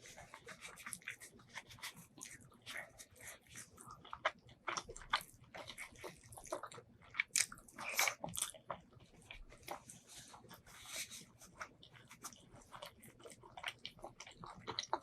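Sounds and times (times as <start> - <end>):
wet biting and chewing: 0.0 - 15.0.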